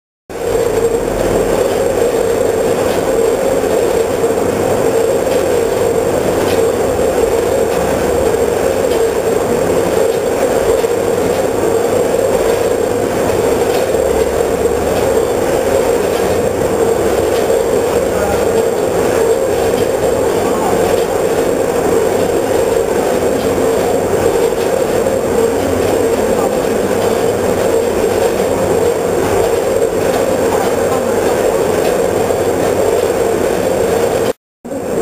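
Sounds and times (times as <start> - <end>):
machine buzzing hum: 0.3 - 35.0.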